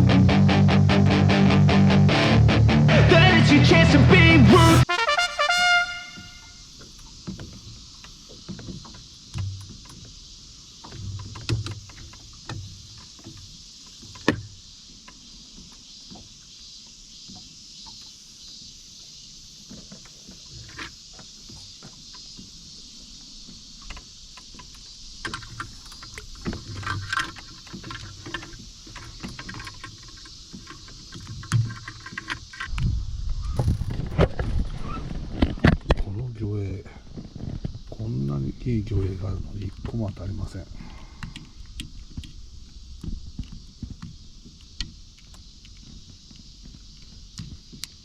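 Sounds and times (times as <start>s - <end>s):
steady high hiss: 3.0s - 48.0s.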